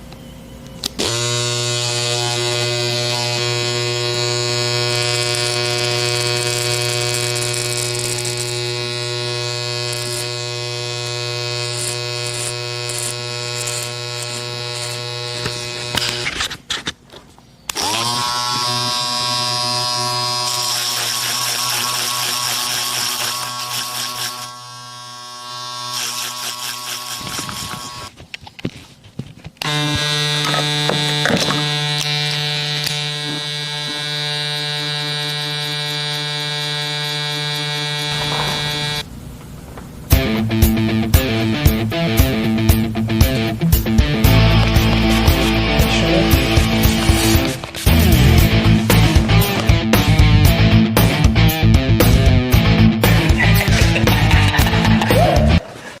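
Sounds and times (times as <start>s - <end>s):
electric hair clippers buzzing: 0.8s - 16.5s, 17.7s - 28.1s, 29.6s - 39.1s, 40.1s - 55.6s.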